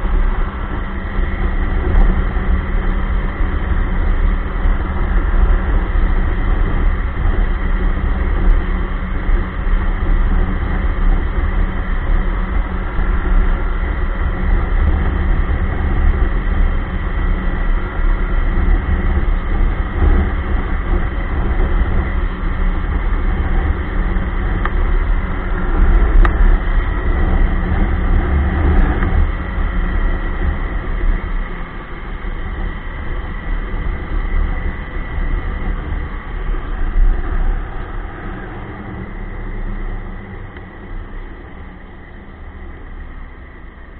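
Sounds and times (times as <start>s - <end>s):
snowmobile engine rumbling: 0.0s - 43.9s.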